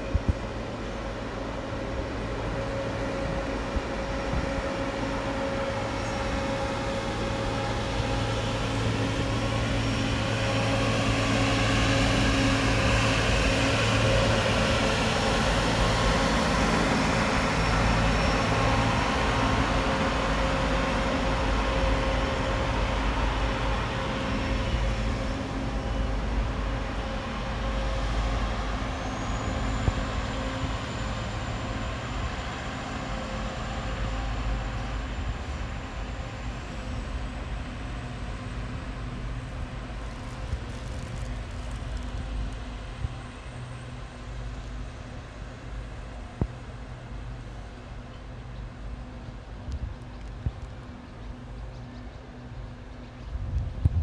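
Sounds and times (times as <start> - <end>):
diesel machines running: 0.0 - 54.0.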